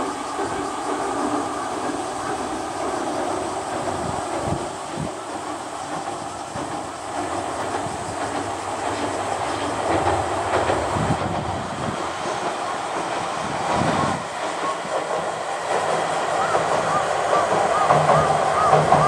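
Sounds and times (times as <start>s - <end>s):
train wheels rumbling on rails: 0.0s - 19.0s
wheels clacking over rail joints: 0.0s - 19.0s.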